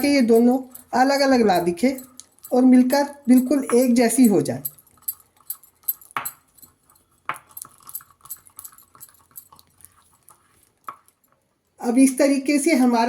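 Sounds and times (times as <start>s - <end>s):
spoon scraping and tapping bowl: 0.0s - 11.2s.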